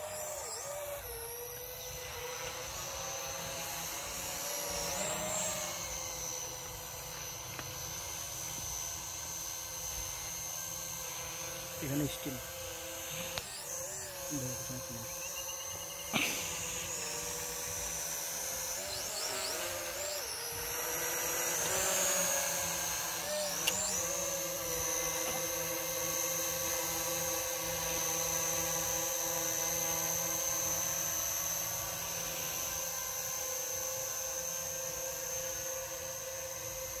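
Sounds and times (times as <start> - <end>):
drone propellers whining: 0.0 - 37.0.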